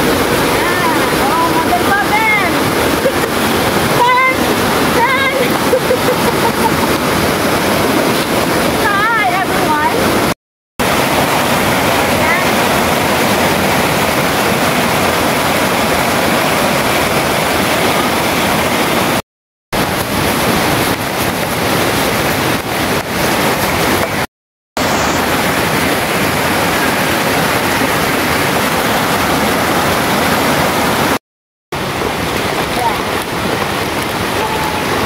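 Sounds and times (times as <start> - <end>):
stream rushing over stones: 0.0 - 35.0.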